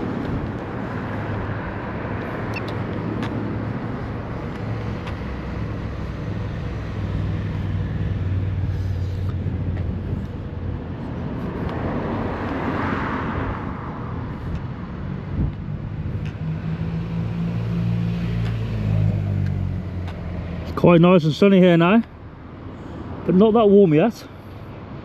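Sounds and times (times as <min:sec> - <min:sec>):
vehicle passing by: 0:00.0 - 0:20.9.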